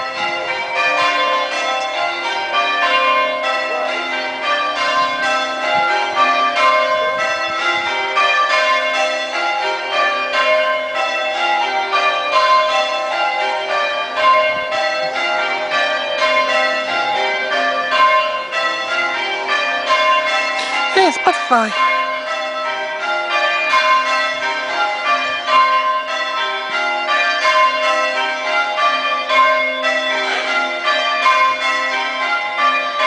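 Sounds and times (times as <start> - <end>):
church bells change-ringing: 0.0 - 33.0.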